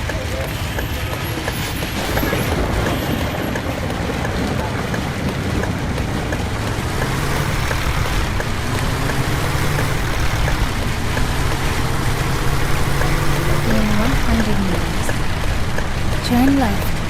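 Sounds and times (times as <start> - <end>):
bus engine running: 0.0 - 17.0
heavy rain hiss: 0.0 - 17.0.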